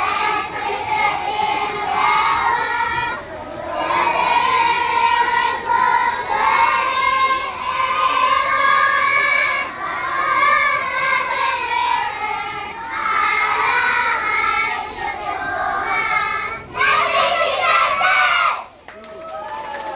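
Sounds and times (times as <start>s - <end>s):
children singing in unison: 0.0s - 18.7s.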